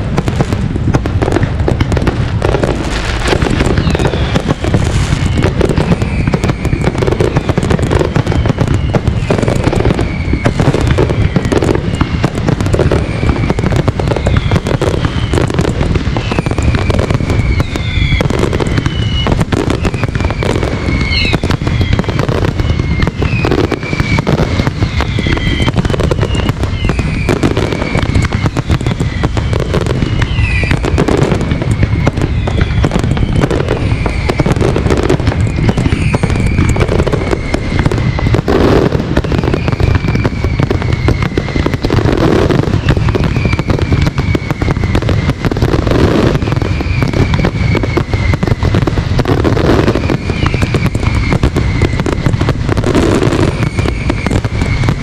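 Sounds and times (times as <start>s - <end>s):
fireworks launching: 0.0s - 55.0s
fireworks shells bursting: 0.0s - 55.0s
descending whistling tones: 3.0s - 55.0s.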